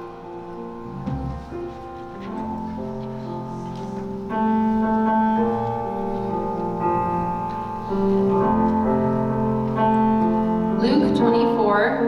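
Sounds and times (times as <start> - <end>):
slow keyboard chords: 0.0 - 12.0.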